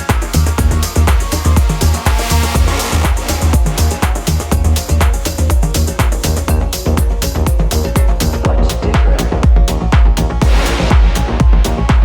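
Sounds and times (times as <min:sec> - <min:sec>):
melodic techno music: 0:00.0 - 0:12.0
pulsing kick drum and bass: 0:00.0 - 0:12.0.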